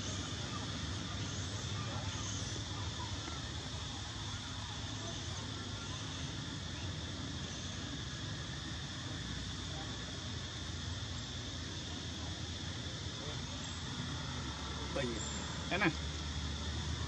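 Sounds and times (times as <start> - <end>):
faint voices: 0.0 - 17.0
low rumble with hiss: 0.0 - 17.0.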